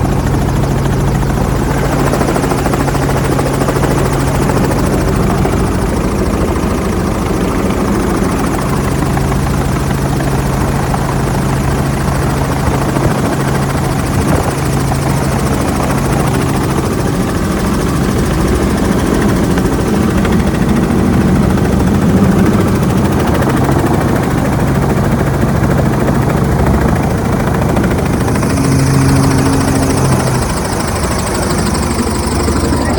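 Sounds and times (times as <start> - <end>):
helicopter engine and rotor drone: 0.0 - 32.9.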